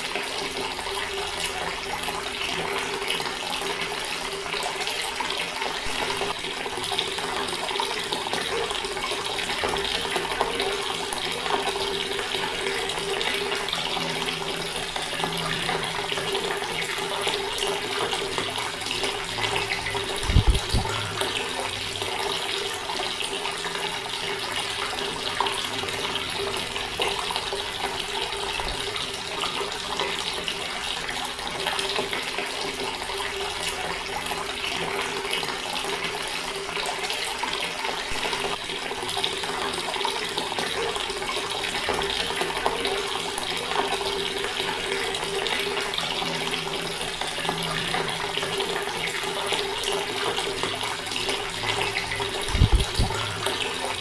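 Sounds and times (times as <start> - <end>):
water tap running: 0.0 - 54.0.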